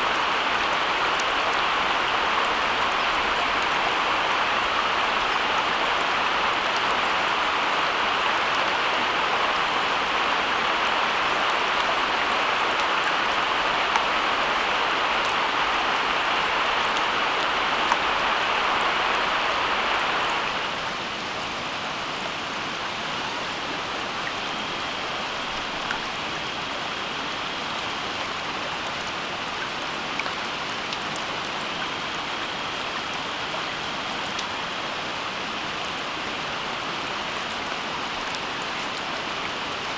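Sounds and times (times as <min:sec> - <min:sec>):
rain-like water hiss: 0:00.0 - 0:39.9.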